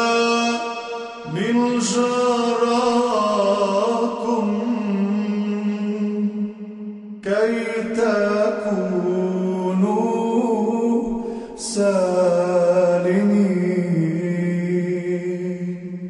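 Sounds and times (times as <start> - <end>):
man singing chant-like melody: 0.0 - 16.0.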